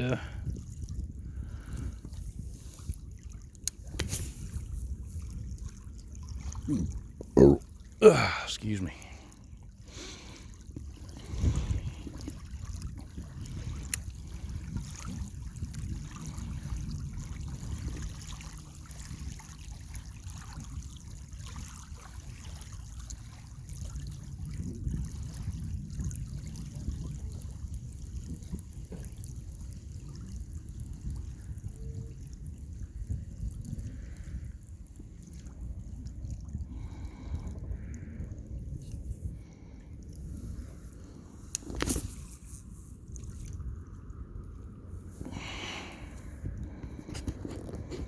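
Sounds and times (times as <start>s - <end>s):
waves lapping at bank: 0.0s - 48.0s.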